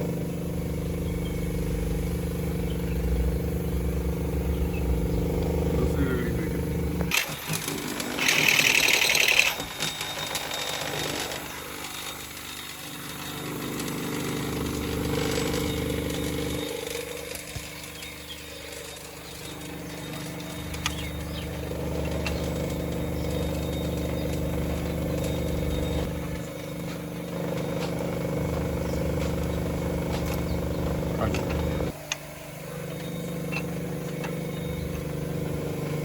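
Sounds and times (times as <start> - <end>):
loud noisy engine burst: 0.0 - 32.0
car engine running: 0.0 - 36.0.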